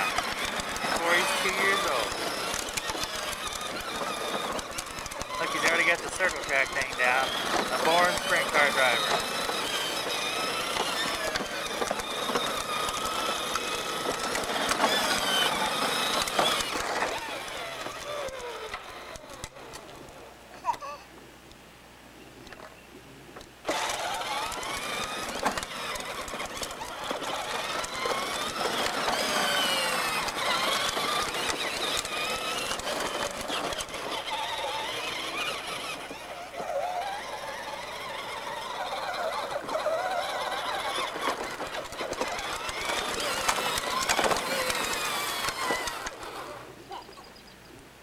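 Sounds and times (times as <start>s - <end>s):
electric toy truck motor whine: 0.0s - 20.8s, 23.6s - 47.5s.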